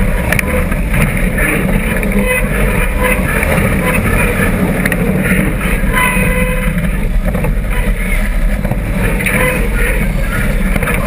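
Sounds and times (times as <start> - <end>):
buggy engine running hard: 0.0 - 11.0.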